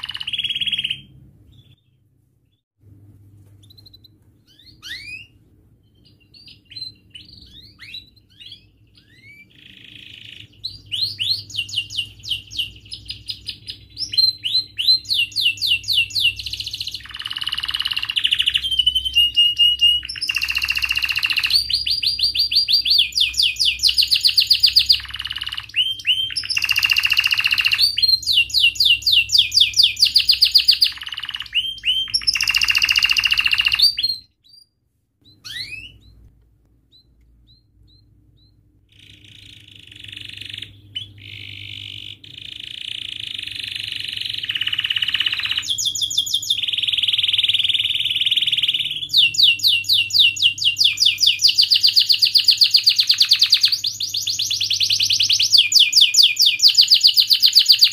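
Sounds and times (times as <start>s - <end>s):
canary singing with trills: 0.0s - 2.6s, 3.6s - 36.3s, 36.9s - 57.9s.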